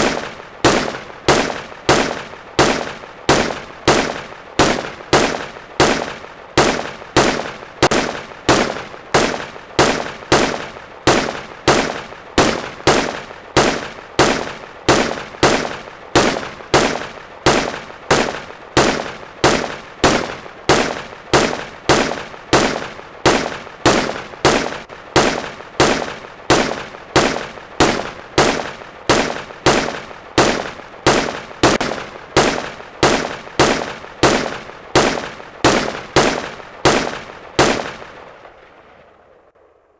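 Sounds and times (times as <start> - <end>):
rifle shots: 0.0 - 38.8.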